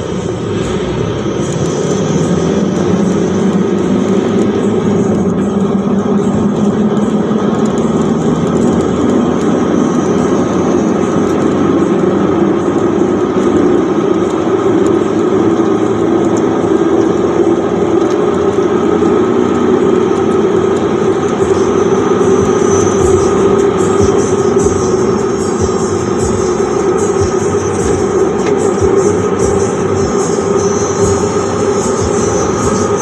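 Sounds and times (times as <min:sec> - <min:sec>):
pickup truck running noise: 0:00.0 - 0:33.0.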